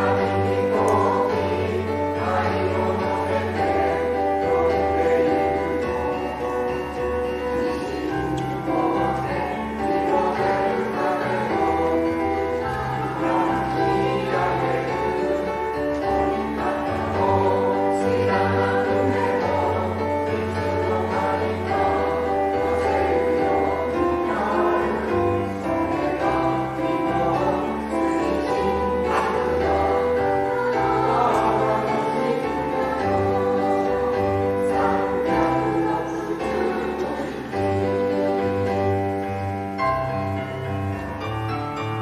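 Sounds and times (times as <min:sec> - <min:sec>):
choir singing in harmony: 0:00.0 - 0:42.0.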